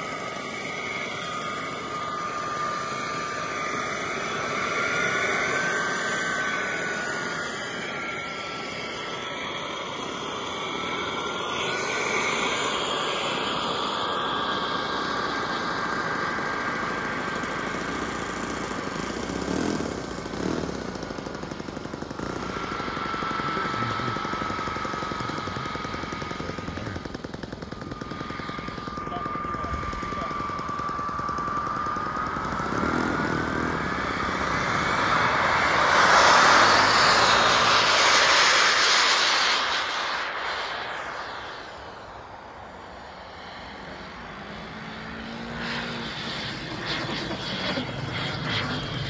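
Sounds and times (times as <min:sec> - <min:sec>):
model jet turbine whining: 0:00.0 - 0:49.0.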